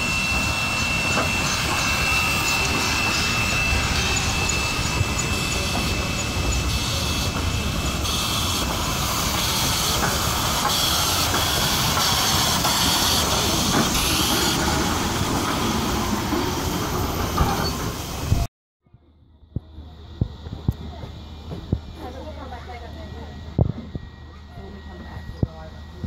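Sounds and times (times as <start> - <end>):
steam train passing: 0.0 - 18.5, 19.6 - 26.0.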